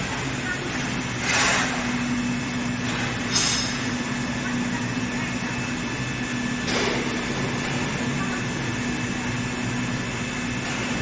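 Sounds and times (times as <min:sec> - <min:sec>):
machine humming with droning tone: 0:00.0 - 0:11.0.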